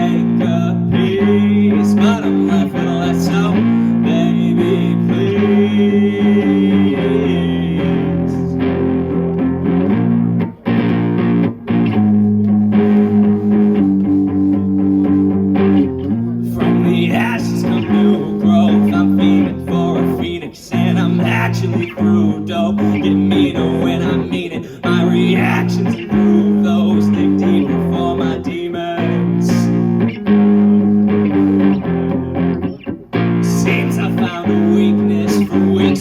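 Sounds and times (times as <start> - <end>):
punk guitar chords: 0.0 - 36.0.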